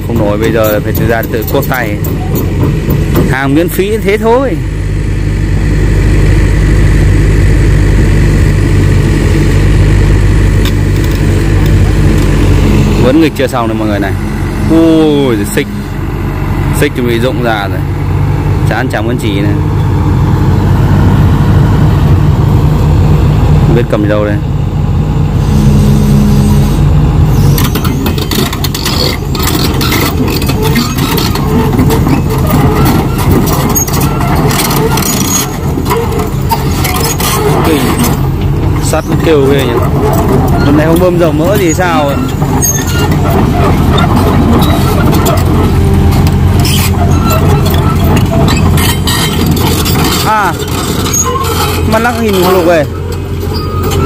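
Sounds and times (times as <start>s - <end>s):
crawler tracks clanking and squealing: 0.0s - 22.5s, 25.3s - 54.0s
excavator diesel engine idling: 0.0s - 54.0s.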